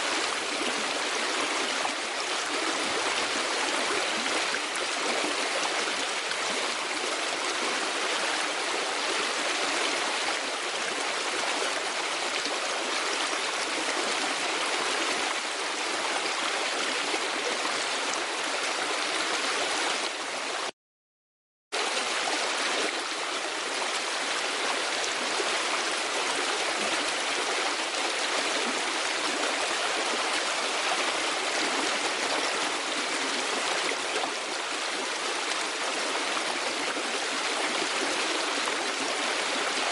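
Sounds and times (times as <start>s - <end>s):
stream rushing: 0.0s - 20.6s, 21.8s - 39.9s.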